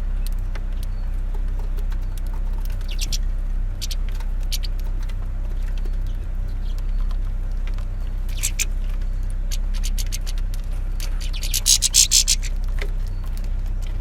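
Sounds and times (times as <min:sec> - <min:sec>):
birds pecking and cracking seeds: 0:00.0 - 0:14.0
steady low hum: 0:00.0 - 0:14.0.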